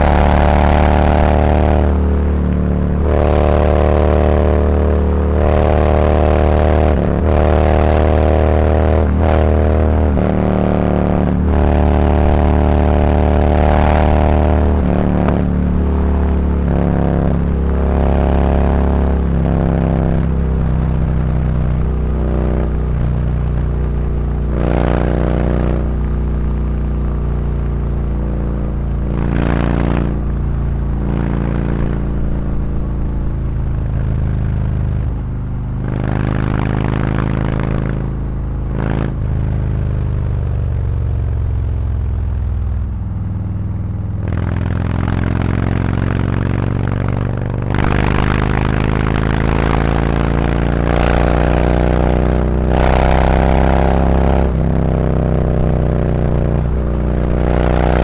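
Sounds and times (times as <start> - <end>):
motorcycle exhaust revving: 0.0 - 58.0.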